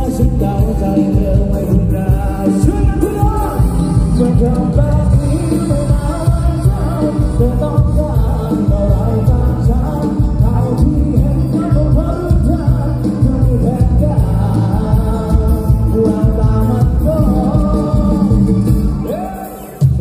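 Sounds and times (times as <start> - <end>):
heavy bass beat: 0.0 - 20.0
live band music: 0.0 - 20.0
person singing: 0.0 - 20.0.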